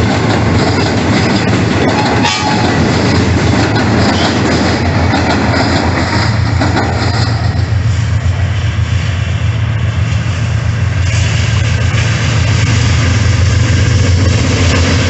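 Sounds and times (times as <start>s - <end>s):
diesel locomotive engine drone: 0.0s - 15.0s
train rumbling: 0.0s - 15.0s.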